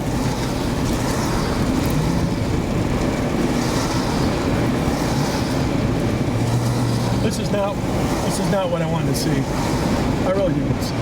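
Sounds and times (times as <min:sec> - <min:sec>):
vehicle noise: 0:00.0 - 0:11.0
wind through open window: 0:00.0 - 0:11.0.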